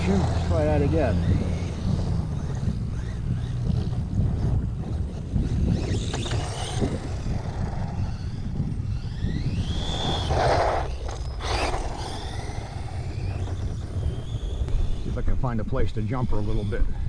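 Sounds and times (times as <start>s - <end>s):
electric motor whining: 0.0s - 17.0s
wind rumble on microphone: 0.0s - 17.0s.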